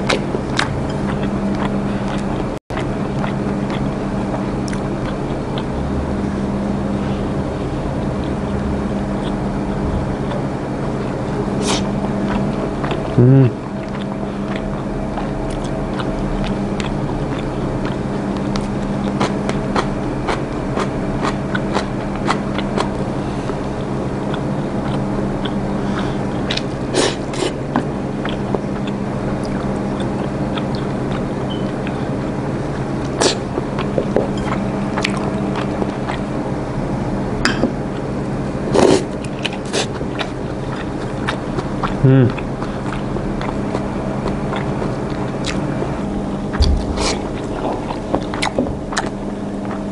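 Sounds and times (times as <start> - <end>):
person chewing: 0.0 - 5.8, 6.8 - 36.4, 37.5 - 49.9
low hum: 0.0 - 49.9.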